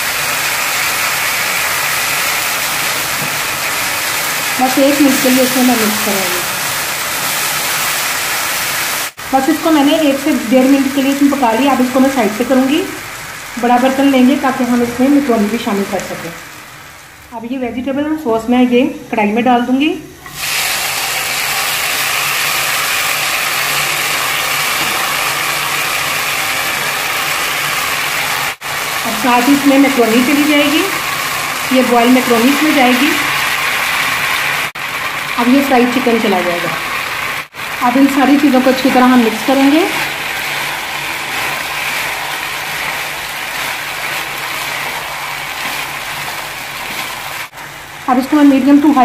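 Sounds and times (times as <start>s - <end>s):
vegetables sizzling in a wok: 0.0s - 49.0s.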